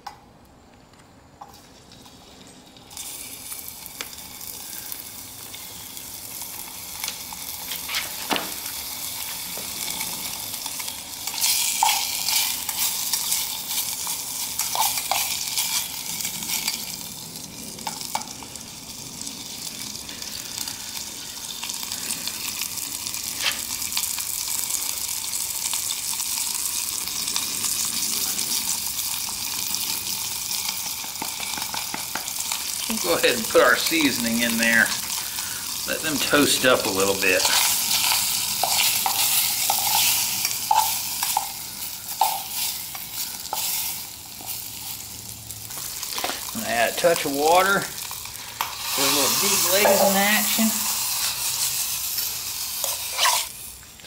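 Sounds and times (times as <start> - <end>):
meat sizzling in hot oil: 1.5 - 54.0.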